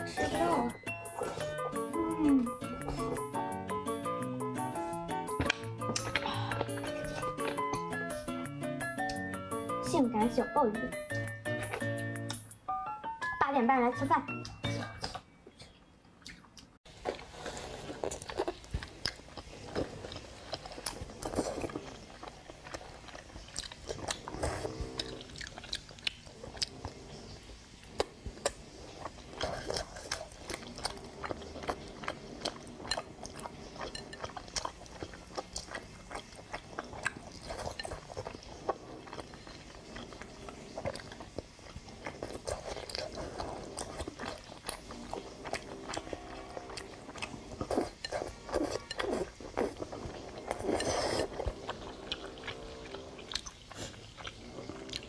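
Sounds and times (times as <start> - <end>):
wet chewing and slurping: 0.0 - 3.6, 4.6 - 9.3, 14.6 - 55.0.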